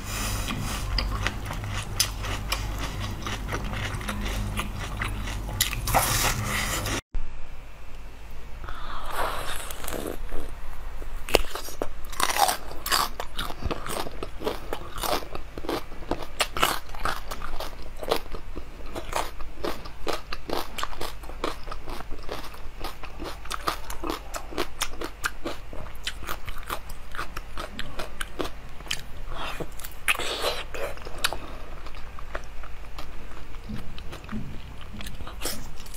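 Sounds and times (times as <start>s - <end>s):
crisp chewing and biting: 0.5s - 7.0s, 11.3s - 35.9s.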